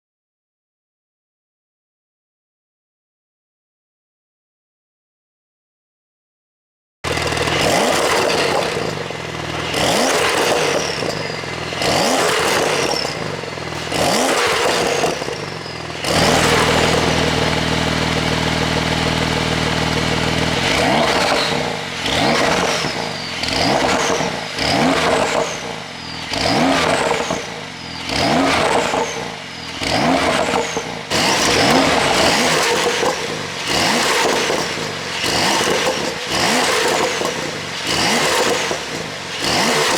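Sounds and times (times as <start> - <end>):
car engine idling: 7.1 - 39.9
car exhaust revving in blips: 7.1 - 39.9.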